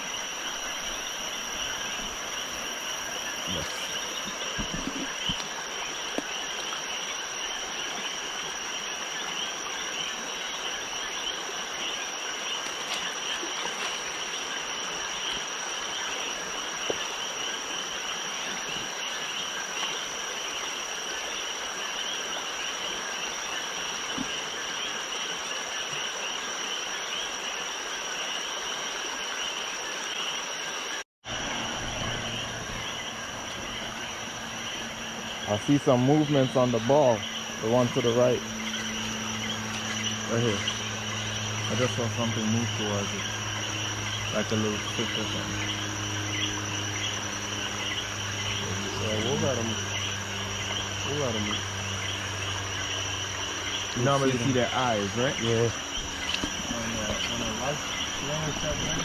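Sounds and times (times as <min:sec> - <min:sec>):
frogs calling: 0:00.0 - 0:59.0
high insect trill: 0:00.0 - 0:59.0.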